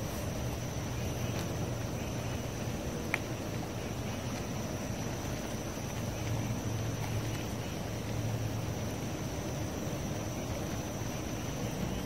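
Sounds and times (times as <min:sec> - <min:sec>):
high steady whine: 0:00.0 - 0:12.0
low background rumble: 0:00.0 - 0:12.0.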